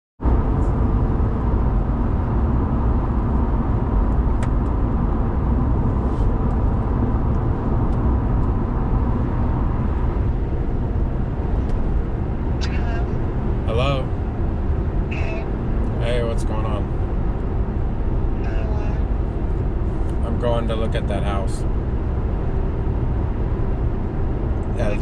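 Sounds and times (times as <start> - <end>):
road and tyre noise in car cabin: 0.2 - 25.0.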